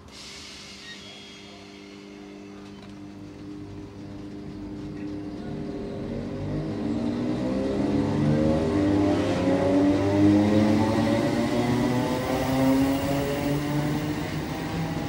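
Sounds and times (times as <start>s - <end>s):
electric train motors whining: 0.0s - 15.0s
train running rumble: 0.0s - 15.0s.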